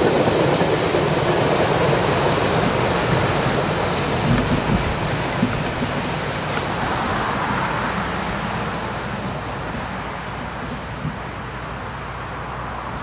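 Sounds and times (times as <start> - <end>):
freight train rumble and wheel noise: 0.0 - 13.0.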